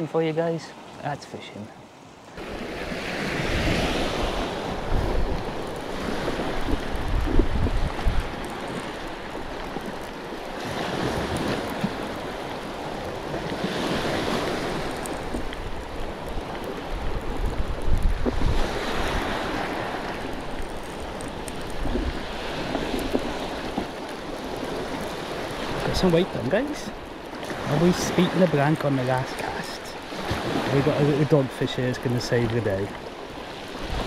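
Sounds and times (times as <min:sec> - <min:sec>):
waves breaking on shingle shore: 0:00.0 - 0:34.0
wind rumbling on microphone: 0:02.4 - 0:34.0.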